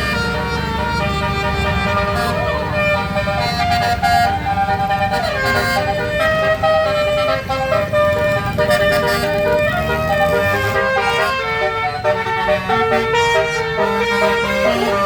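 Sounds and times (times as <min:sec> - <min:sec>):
bus engine: 0:00.0 - 0:15.0
musical bus horn tune: 0:00.0 - 0:15.0.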